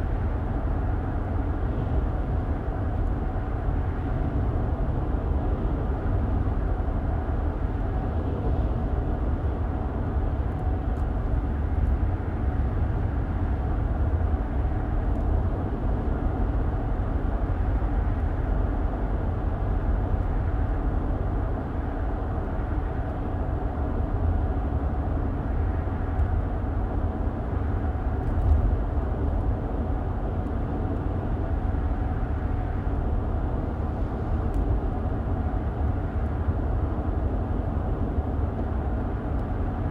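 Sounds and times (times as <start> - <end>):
car interior road noise: 0.0 - 39.9.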